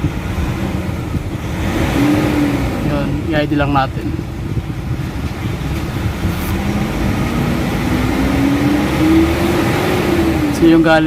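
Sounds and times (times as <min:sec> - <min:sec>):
pickup engine revving: 0:00.0 - 0:11.0.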